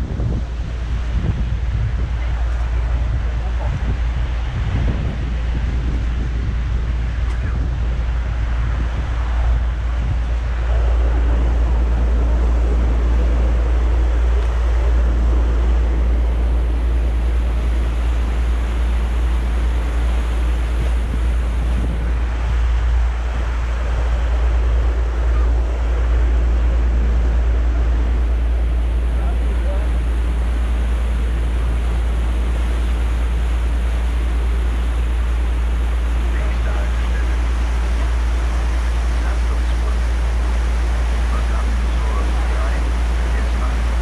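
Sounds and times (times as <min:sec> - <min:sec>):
boat running noise: 0:00.0 - 0:44.0
water washing along hull: 0:00.0 - 0:44.0
wind rumbling on microphone: 0:00.0 - 0:44.0.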